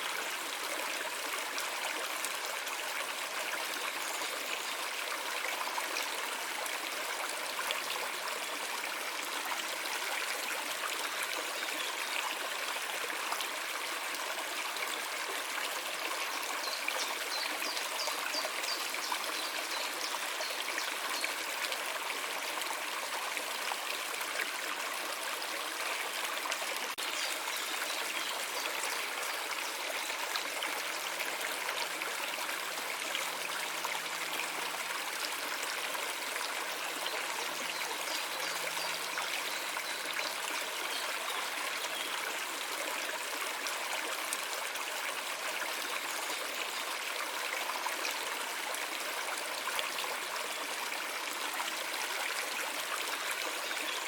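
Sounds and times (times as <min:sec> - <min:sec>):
stream of water running: 0:00.0 - 0:54.0.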